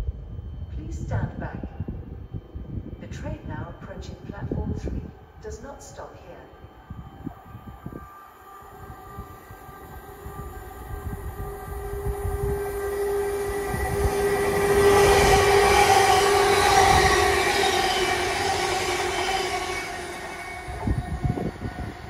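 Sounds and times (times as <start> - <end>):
steady tone: 0.0 - 22.0
train passing through station: 0.0 - 22.0.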